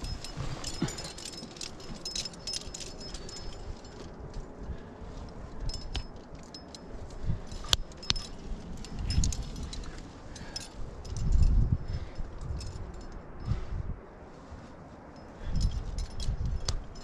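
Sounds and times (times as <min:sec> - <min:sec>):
climbing hardware clinking: 0:00.0 - 0:13.6, 0:15.1 - 0:17.0.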